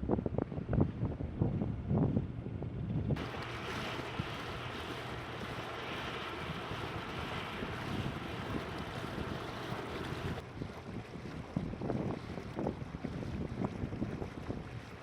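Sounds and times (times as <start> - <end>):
low engine hum: 0.0 - 15.0
rushing wind and water: 0.0 - 15.0
wind gusting on microphone: 0.0 - 15.0.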